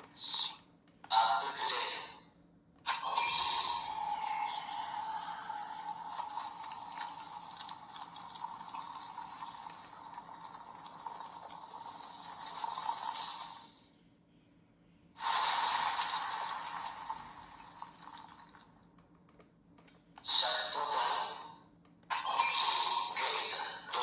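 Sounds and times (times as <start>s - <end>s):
hissing static from toy speaker: 0.0s - 2.2s, 2.9s - 13.9s, 15.2s - 18.3s, 19.8s - 24.0s.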